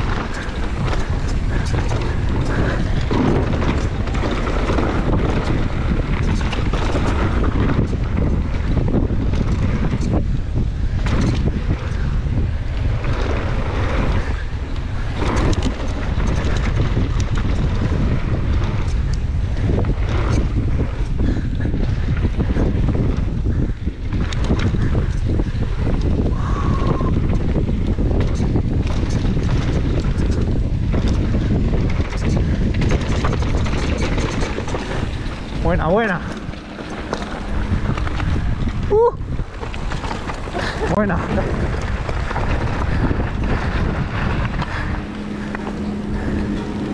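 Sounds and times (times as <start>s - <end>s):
bike chain clicks and rattles: 0.0s - 46.9s
tyres rolling on dirt and gravel: 0.0s - 46.9s
wind buffeting microphone: 0.0s - 46.9s.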